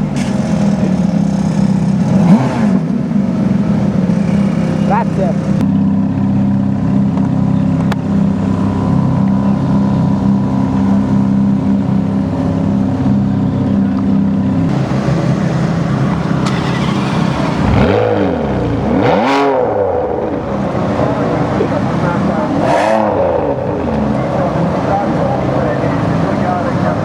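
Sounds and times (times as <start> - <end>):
sports car engine idling and revving: 0.0 - 27.0.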